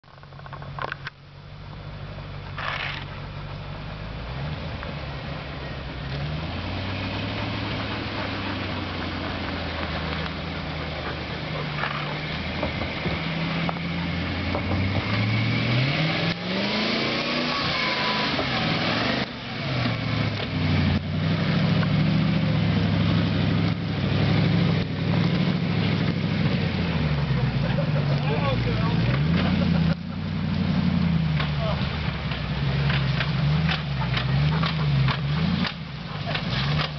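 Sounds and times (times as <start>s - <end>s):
vehicle engine revving: 2.3s - 36.9s.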